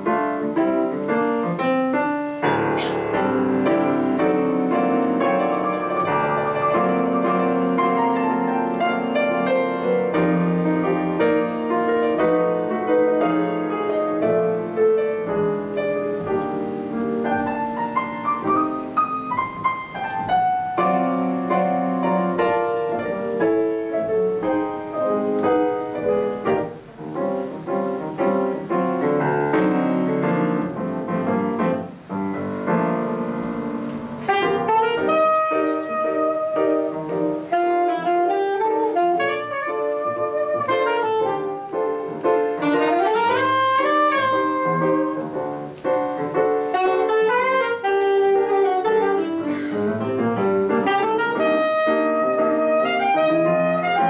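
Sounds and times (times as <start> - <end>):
grand piano solo: 0.0 - 54.0.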